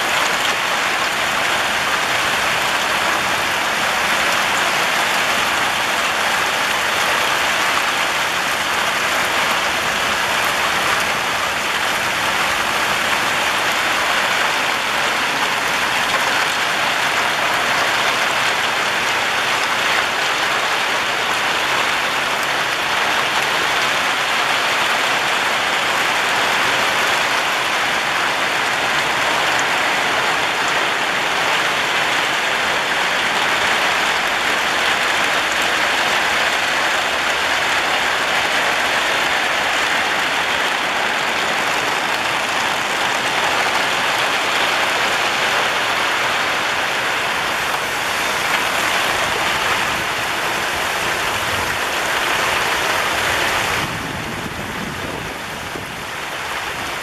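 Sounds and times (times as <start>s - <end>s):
heavy rain on tiled roofs: 0.0s - 57.0s.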